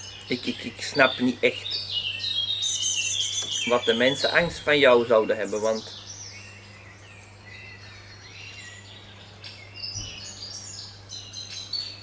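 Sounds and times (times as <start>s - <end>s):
small songbirds chirping: 0.0s - 12.0s
steady low hum: 0.0s - 12.0s.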